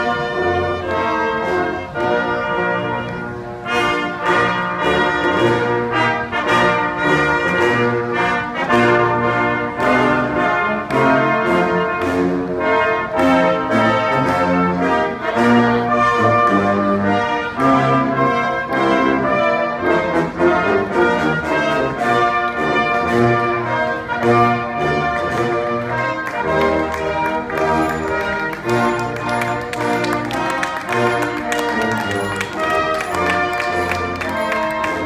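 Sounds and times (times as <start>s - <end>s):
brass band playing: 0.0s - 35.0s.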